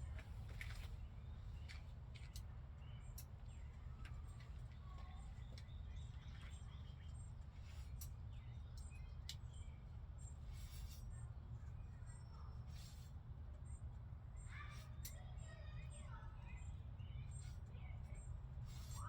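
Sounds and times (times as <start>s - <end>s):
faint bird chirps: 2.8s - 19.0s.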